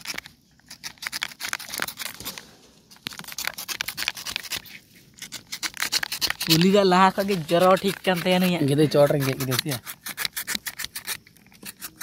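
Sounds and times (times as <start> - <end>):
knife scraping fruit flesh: 0.0 - 12.0.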